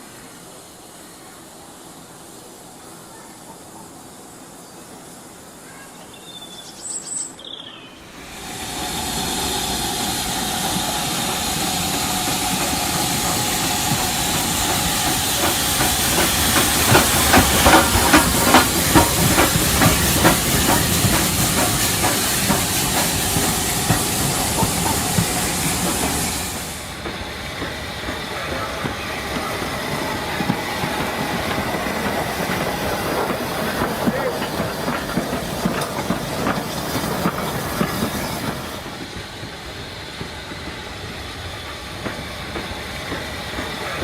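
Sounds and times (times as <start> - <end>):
steam hissing: 0.0 - 7.3, 7.9 - 44.0.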